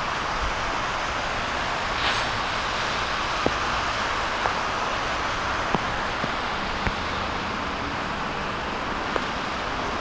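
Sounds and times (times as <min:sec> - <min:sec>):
rain falling on a flooded road: 0:00.0 - 0:10.0.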